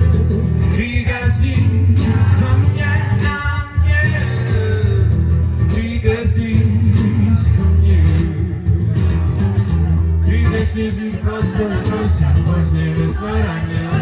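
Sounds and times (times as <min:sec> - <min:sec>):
acoustic guitar strummed: 0:00.0 - 0:14.0
man singing: 0:00.0 - 0:14.0.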